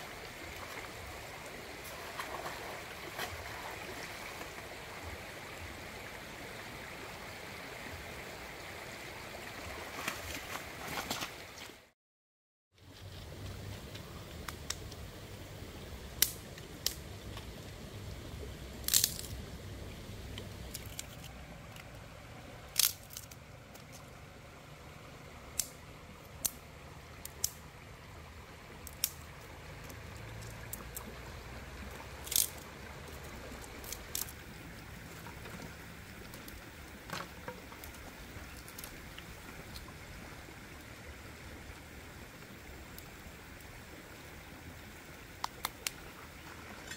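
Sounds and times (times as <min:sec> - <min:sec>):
flowing river water: 0:00.0 - 0:11.9, 0:12.8 - 0:46.9.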